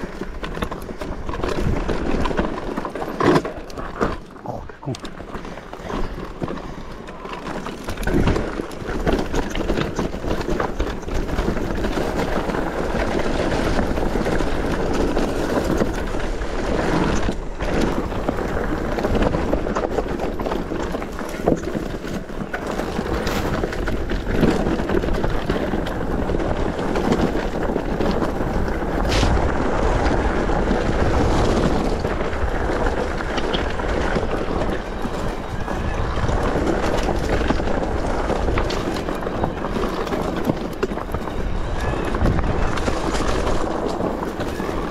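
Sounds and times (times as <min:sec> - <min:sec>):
bike knocking and rattling: 0:00.0 - 0:44.9
tyres crunching over stones: 0:00.0 - 0:44.9
wind buffeting microphone: 0:00.0 - 0:44.9.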